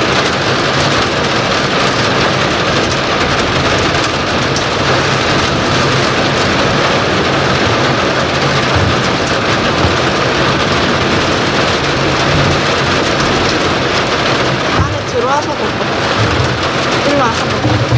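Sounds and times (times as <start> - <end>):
heavy rain pouring: 0.0 - 17.9.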